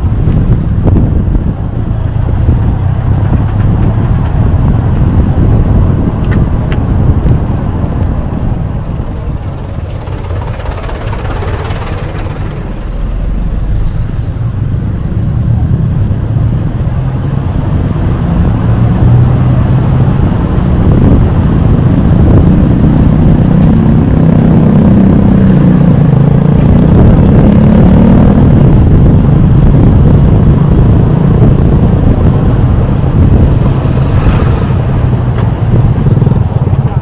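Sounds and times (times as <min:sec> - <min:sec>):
low rumbling road noise: 0:00.0 - 0:37.0
vehicle engine running: 0:00.0 - 0:37.0.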